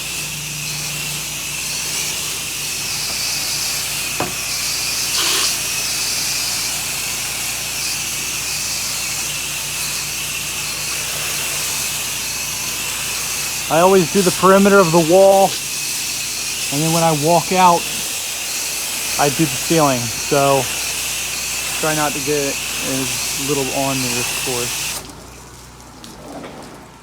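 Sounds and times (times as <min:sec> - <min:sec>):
pressure washer spraying water: 0:00.0 - 0:25.5.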